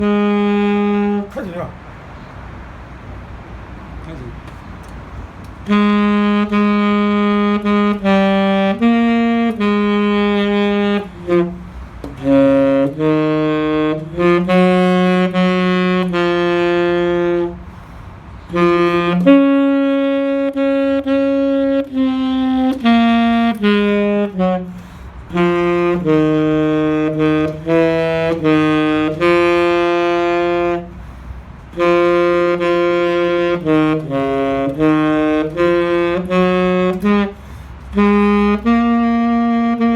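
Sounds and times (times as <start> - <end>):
saxophone melody: 0.0 - 1.8, 5.1 - 39.9.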